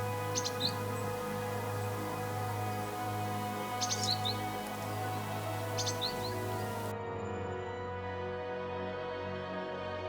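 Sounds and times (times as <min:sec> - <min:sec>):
soft slow instrumental music: 0:00.0 - 0:10.0.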